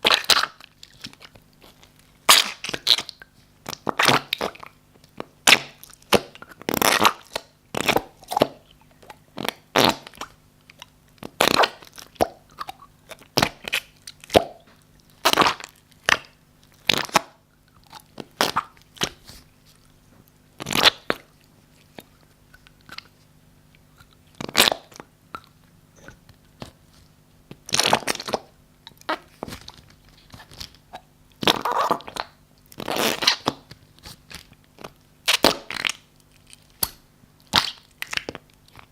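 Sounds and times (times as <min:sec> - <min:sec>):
slime squelching and popping: 0:00.0 - 0:20.0, 0:20.6 - 0:23.2, 0:23.8 - 0:38.9.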